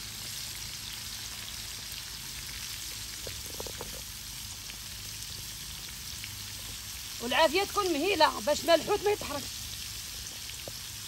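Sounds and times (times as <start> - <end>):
fish frying in oil sizzling: 0.0 - 11.0.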